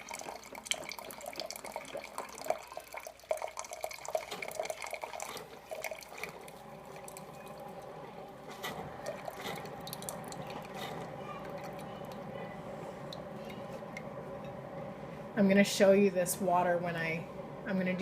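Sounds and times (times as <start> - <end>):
coffee maker sputtering and pouring: 0.0 - 18.0.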